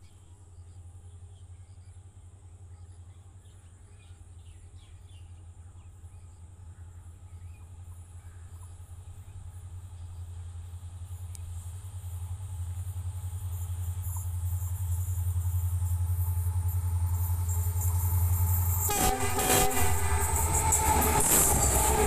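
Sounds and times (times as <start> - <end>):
distant diesel locomotive rumble: 0.0 - 22.0.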